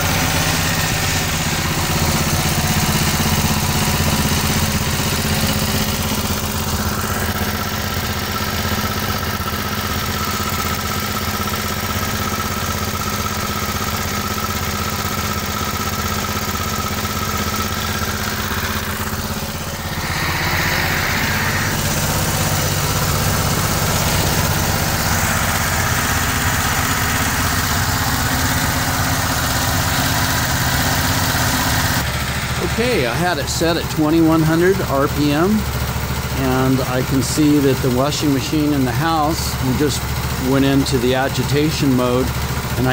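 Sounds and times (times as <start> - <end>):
small gasoline generator engine running: 0.0 - 42.9.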